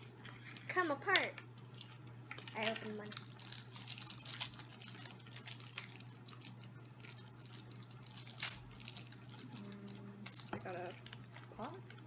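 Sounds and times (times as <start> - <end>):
faint steady hum: 0.0 - 12.0
plastic packaging crinkling and tearing: 0.2 - 12.0.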